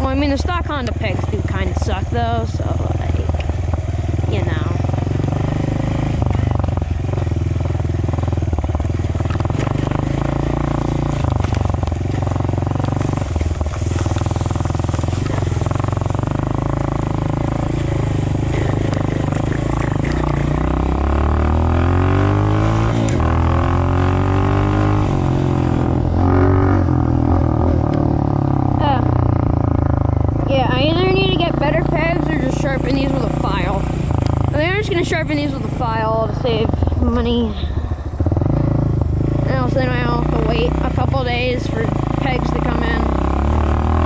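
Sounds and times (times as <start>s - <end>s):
dirt bike engine accelerating: 0.0s - 44.0s.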